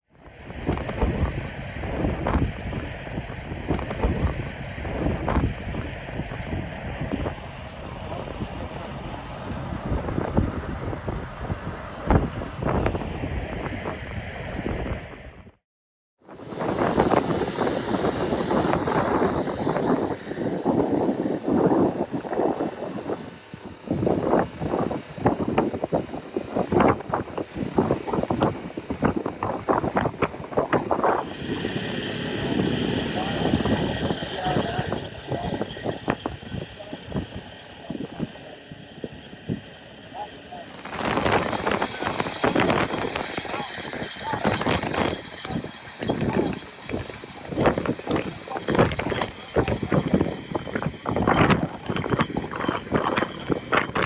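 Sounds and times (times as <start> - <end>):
wind buffeting microphone: 0.2 - 15.6, 16.4 - 54.0.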